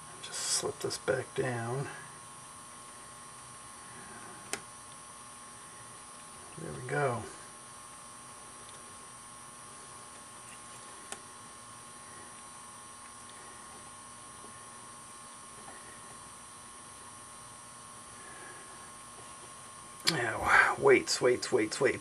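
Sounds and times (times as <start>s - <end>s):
electrical hum and hiss: 0.0s - 22.0s.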